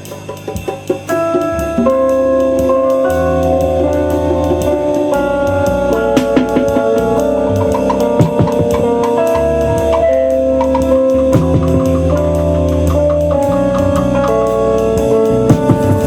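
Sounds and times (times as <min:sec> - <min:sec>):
drum kit beat: 0:00.0 - 0:16.0
keyboard chords: 0:00.0 - 0:16.0
low sustained notes: 0:01.1 - 0:16.0.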